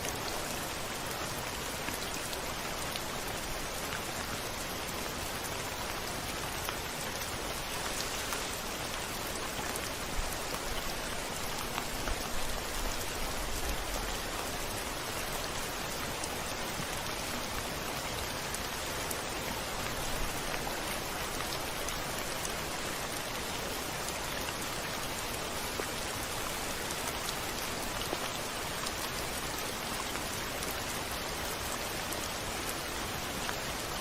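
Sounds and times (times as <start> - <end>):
rain against a window: 0.0 - 34.0.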